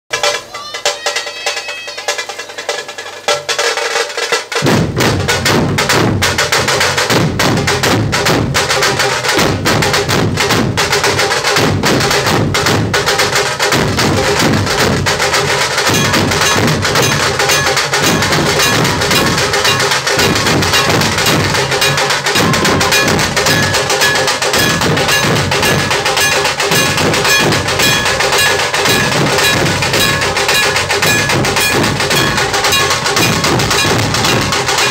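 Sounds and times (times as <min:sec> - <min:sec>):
sharp high drum strokes: 0:00.1 - 0:34.9
deep barrel drums beating: 0:02.1 - 0:34.9.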